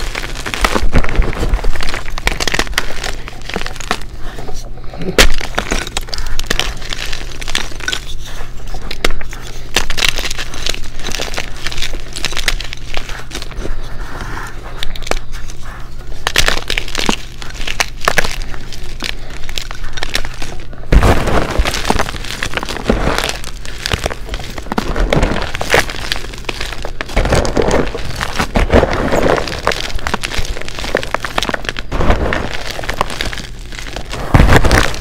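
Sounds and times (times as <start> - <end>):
chalk cracking and crunching: 0.0 - 35.0.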